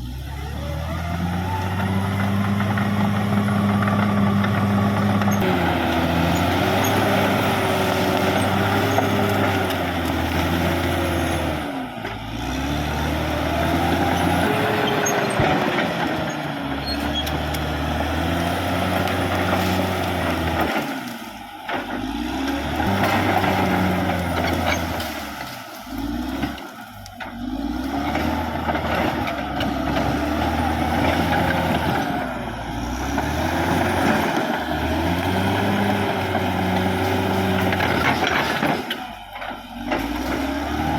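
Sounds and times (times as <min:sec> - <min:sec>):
bulldozer diesel engine under load: 0:00.0 - 0:40.9.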